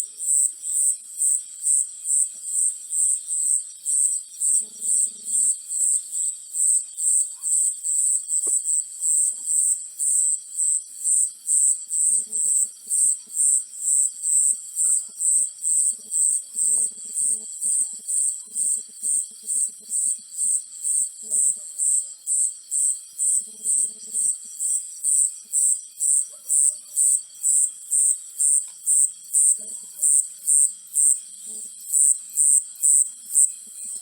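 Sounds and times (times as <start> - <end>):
high-pitched insect chirping: 0.1 - 34.0.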